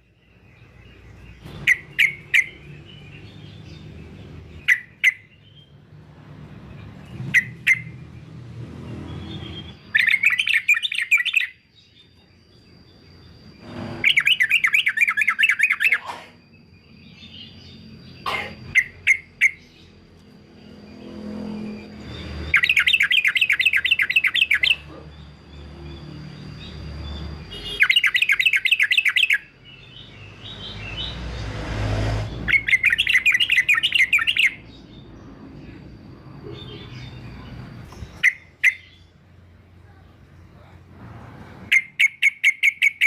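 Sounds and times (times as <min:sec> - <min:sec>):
bird chattering song: 0:00.0 - 0:31.5, 0:32.3 - 0:40.7, 0:41.7 - 0:43.0
bird chirps: 0:00.0 - 0:31.6, 0:32.2 - 0:40.6, 0:41.7 - 0:43.0.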